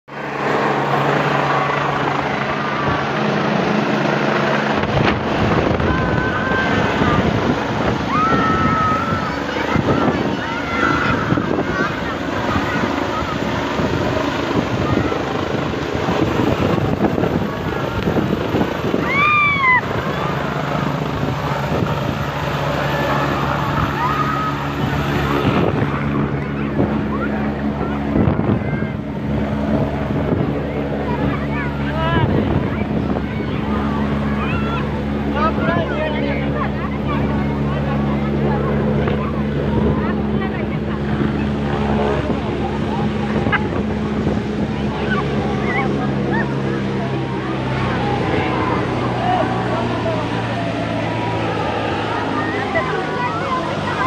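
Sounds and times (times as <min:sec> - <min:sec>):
helicopter rotor and engine noise: 0:00.0 - 0:54.0
wind buffeting microphone: 0:00.1 - 0:54.0.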